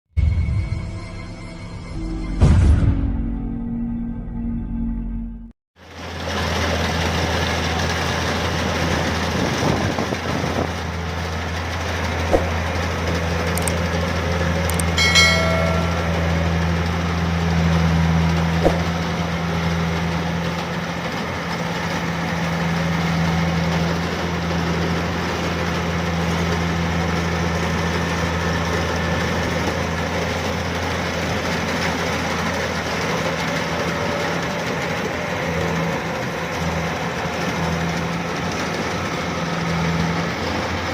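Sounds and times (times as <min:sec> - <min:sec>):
harvester engine drone: 0:05.8 - 0:40.9.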